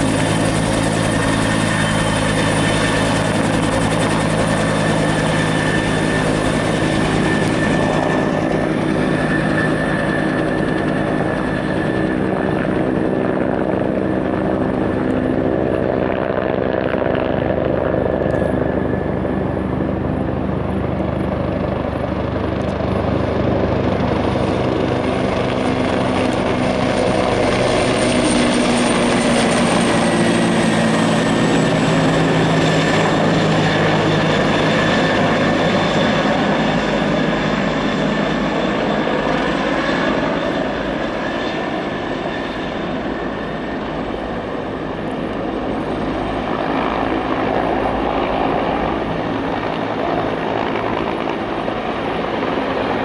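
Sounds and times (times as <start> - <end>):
helicopter engine whine: 0.0 - 53.0
helicopter rotor beat: 0.0 - 53.0.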